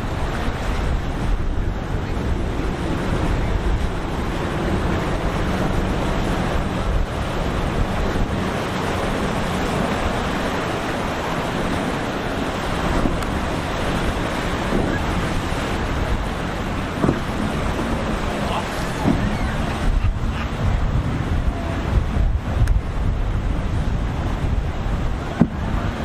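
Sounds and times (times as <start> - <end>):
waves washing: 0.0 - 26.0
wind buffeting microphone: 0.0 - 26.0.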